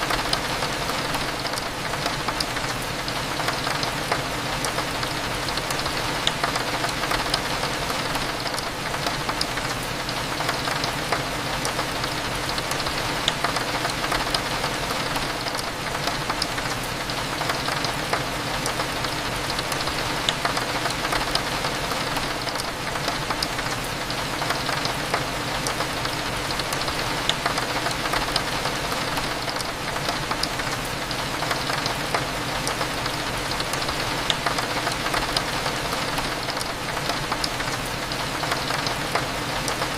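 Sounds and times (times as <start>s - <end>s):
rain against a window: 0.0s - 39.9s.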